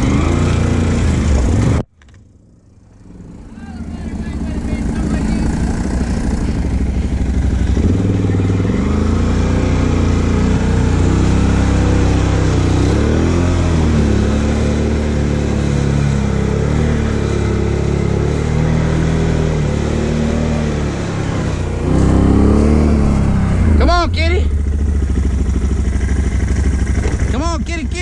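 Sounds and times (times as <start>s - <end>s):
atv engine running under load: 0.0s - 28.0s.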